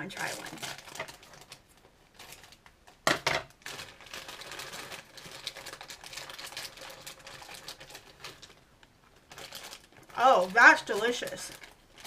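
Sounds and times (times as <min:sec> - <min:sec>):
plastic bag ripping: 0:00.0 - 0:02.7, 0:03.4 - 0:12.0
plastic bag crinkling: 0:00.0 - 0:12.0.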